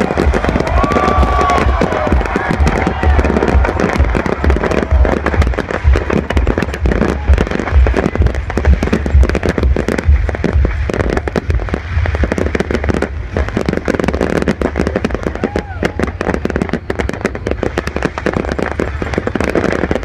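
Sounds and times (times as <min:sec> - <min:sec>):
fireworks crackling and popping: 0:00.0 - 0:20.0
low rumble: 0:00.0 - 0:20.0.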